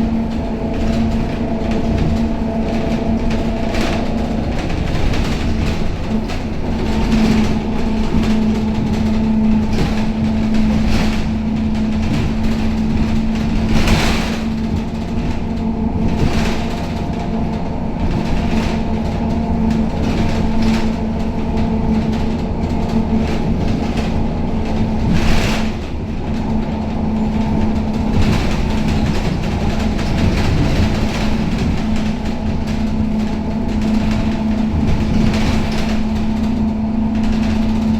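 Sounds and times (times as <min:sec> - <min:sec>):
bus body rattling and knocking: 0:00.0 - 0:37.9
bus engine drone: 0:00.0 - 0:37.9.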